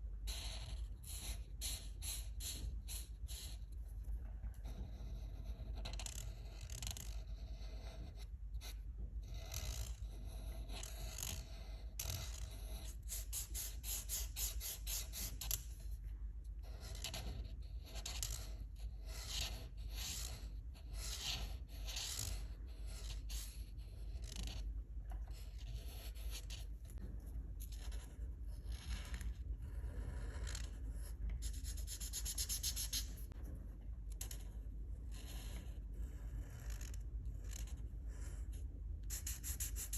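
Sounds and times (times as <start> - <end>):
coloring strokes scratching paper: 0.0 - 16.0, 16.6 - 33.4, 34.1 - 39.9
low steady hum: 0.0 - 39.9.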